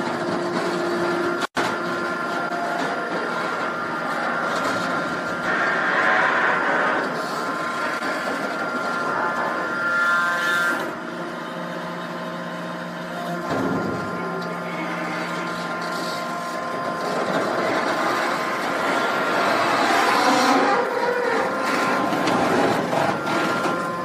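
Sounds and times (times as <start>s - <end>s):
baler machinery drone with whine: 0.0s - 24.0s.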